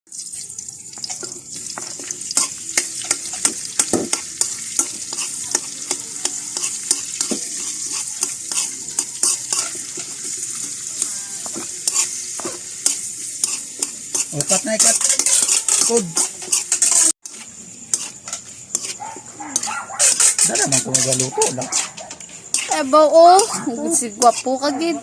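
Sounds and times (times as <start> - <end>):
food sizzling in a frying pan: 0.1 - 25.0
utensil scraping a pan: 1.8 - 25.0.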